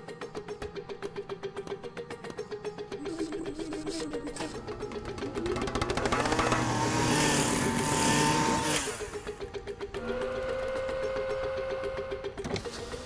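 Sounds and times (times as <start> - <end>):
pulsing music: 0.0 - 13.0.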